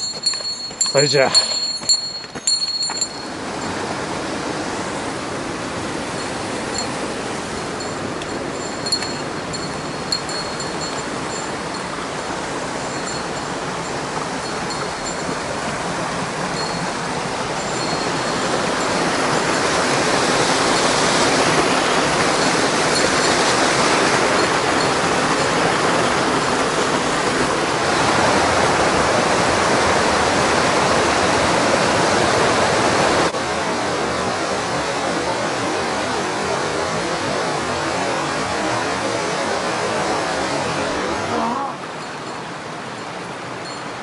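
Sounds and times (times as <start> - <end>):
mountain stream rushing: 0.0 - 44.0.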